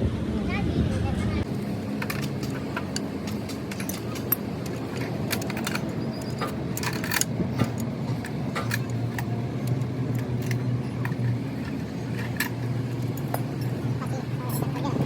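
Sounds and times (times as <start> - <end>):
steady low hum: 0.0 - 15.0
light metallic clinks and taps: 2.0 - 14.9.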